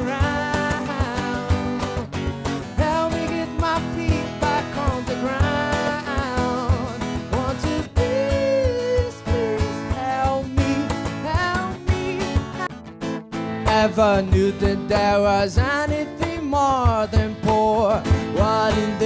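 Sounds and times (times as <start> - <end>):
person singing: 0.0 - 12.8, 13.6 - 19.0
strummed acoustic guitar: 0.0 - 19.0.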